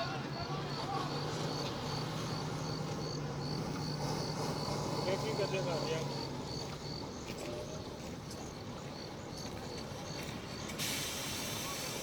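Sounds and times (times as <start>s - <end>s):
cricket chirping: 0.3s - 11.3s.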